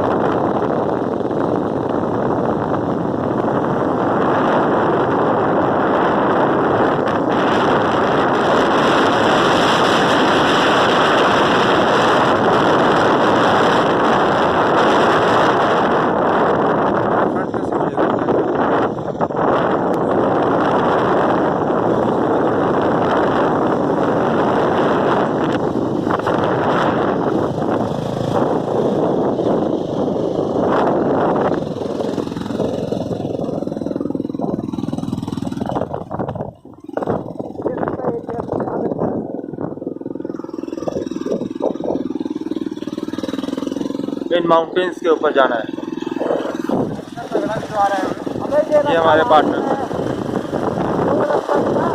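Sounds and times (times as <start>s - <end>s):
vehicle engine running: 0.0s - 51.9s
wind buffeting microphone: 0.0s - 51.9s.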